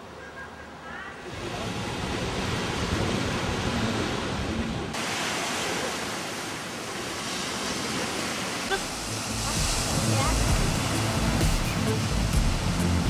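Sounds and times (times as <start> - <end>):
sea surf on sandy beach: 0.0 - 13.0
wind: 0.0 - 13.0.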